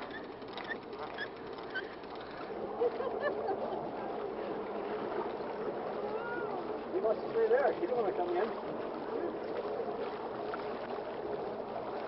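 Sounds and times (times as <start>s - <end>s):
water washing around a boat: 0.0s - 12.0s.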